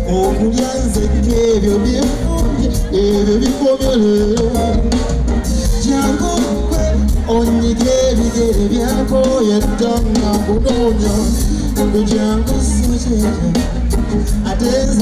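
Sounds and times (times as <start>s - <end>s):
band with drums: 0.0s - 15.0s
man singing into microphone: 0.0s - 15.0s.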